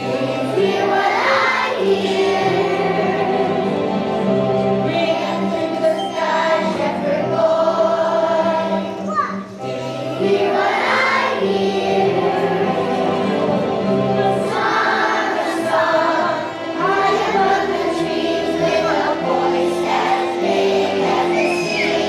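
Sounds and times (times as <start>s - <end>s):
children's choir singing: 0.0s - 22.0s
instrumental accompaniment: 0.0s - 22.0s.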